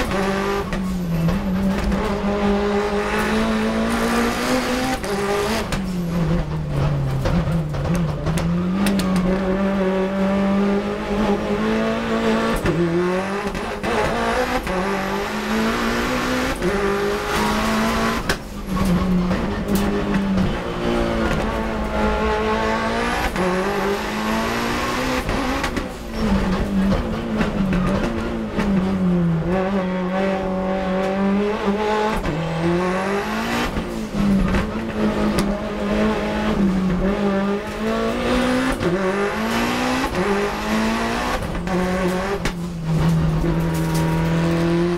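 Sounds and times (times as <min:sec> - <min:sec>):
race car engine under load: 0:00.0 - 0:44.9
road and wind noise: 0:00.0 - 0:44.9.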